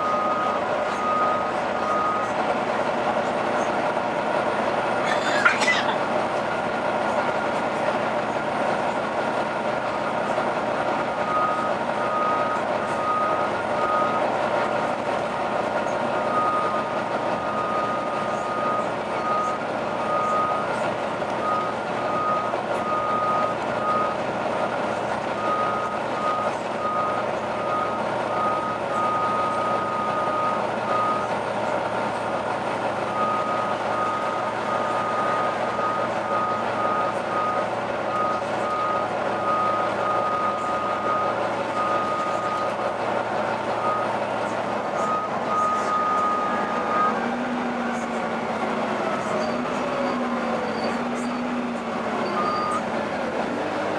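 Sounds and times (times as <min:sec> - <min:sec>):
bus running: 0:00.0 - 0:53.9.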